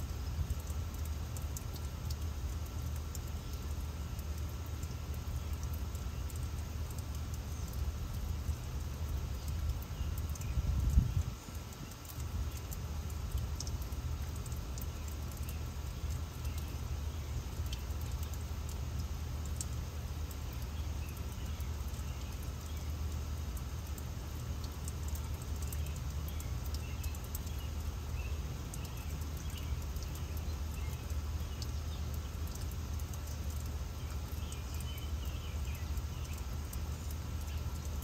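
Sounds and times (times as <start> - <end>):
water fountain hissing: 0.0 - 10.6, 11.2 - 38.0.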